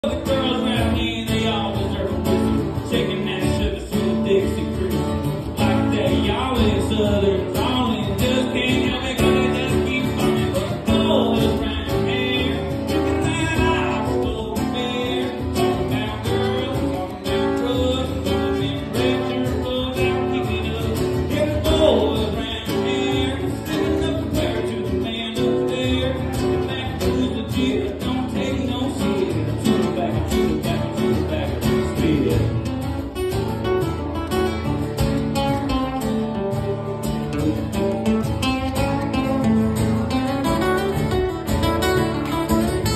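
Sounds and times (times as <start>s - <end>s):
acoustic guitar duet: 0.0s - 42.9s.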